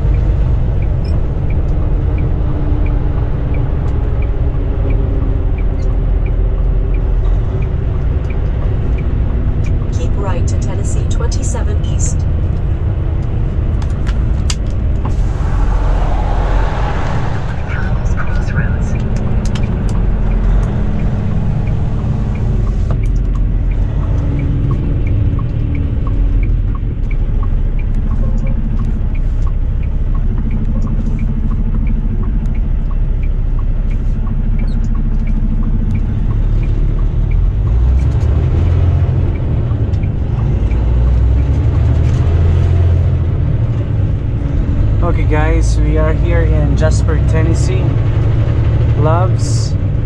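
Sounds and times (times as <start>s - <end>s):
light regular ticking: 0.0s - 16.7s, 18.4s - 50.0s
truck engine and road rumble: 0.0s - 50.0s.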